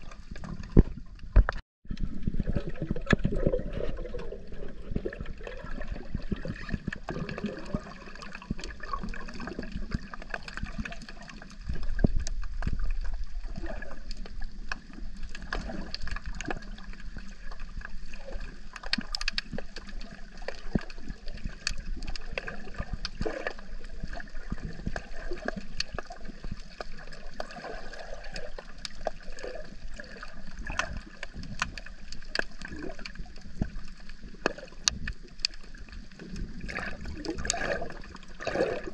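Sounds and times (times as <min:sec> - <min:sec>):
water gurgling underwater: 0:00.0 - 0:38.9
sharp clicks and crackles: 0:00.1 - 0:38.9.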